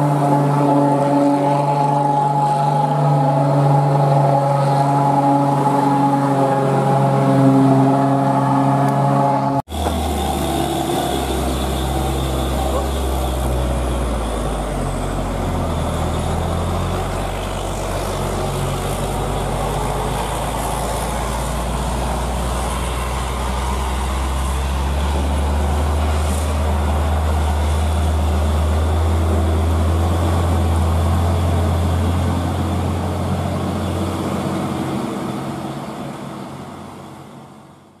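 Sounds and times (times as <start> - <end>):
diesel truck engine drone: 0.0 - 38.0.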